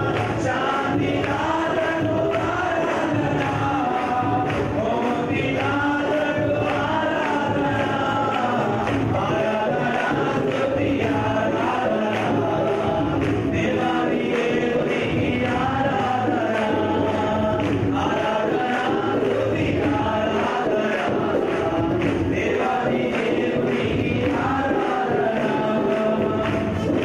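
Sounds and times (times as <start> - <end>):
congregation singing: 0.0 - 27.0
hand clapping: 0.0 - 27.0.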